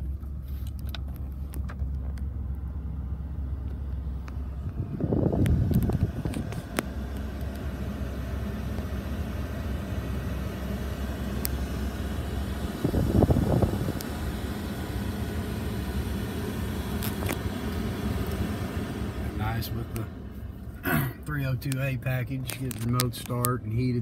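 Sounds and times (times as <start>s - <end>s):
pickup truck idling: 0.0s - 24.0s.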